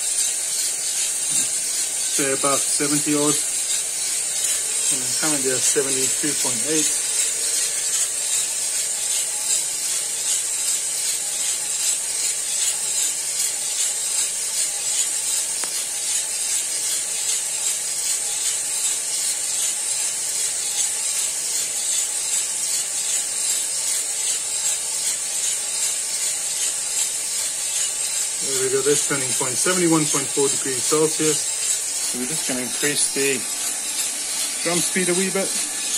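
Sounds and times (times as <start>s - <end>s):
coffee beans rattling in drum: 0.0s - 35.9s
fan hiss: 0.0s - 35.9s.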